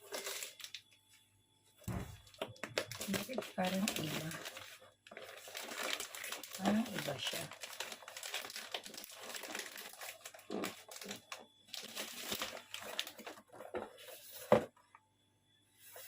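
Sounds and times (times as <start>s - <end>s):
packaging crinkling and rustling: 0.0s - 1.0s, 1.9s - 14.9s.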